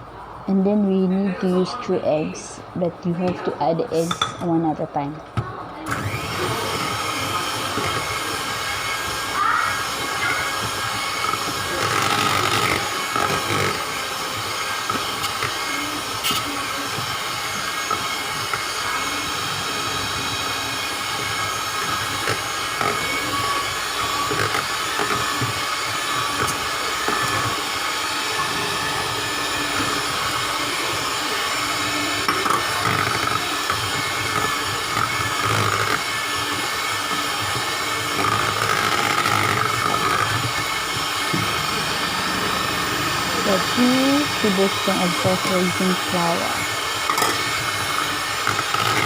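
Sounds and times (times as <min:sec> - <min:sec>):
electric mixer whirring: 0:00.0 - 0:49.0.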